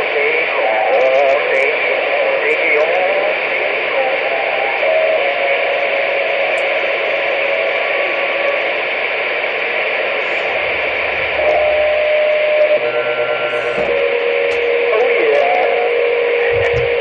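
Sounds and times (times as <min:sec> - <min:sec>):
faint steady tones: 0:00.0 - 0:17.0
radio static hiss: 0:00.0 - 0:17.0.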